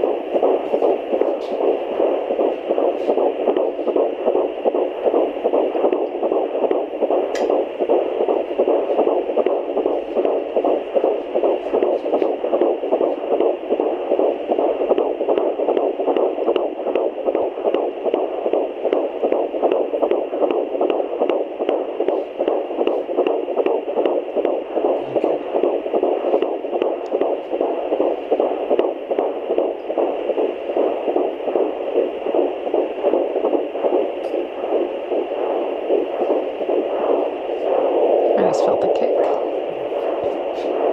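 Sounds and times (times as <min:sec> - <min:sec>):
fetal heartbeat on doppler: 0:00.0 - 0:40.9.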